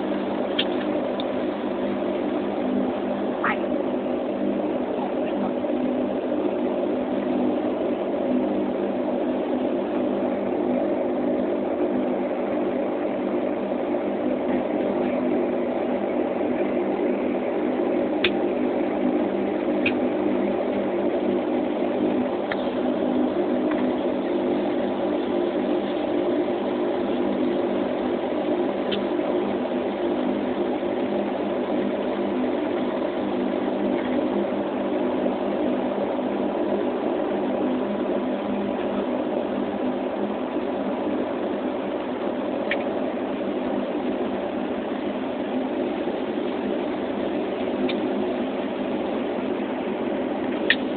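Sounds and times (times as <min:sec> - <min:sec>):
thin steady hum: 0:00.0 - 0:50.9
turboprop engine drone in cabin: 0:00.0 - 0:50.9.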